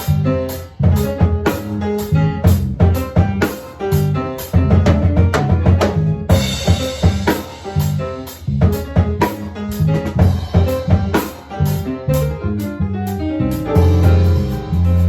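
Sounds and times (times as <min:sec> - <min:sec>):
drum kit playing a groove: 0:00.0 - 0:15.0
piano: 0:00.0 - 0:15.0.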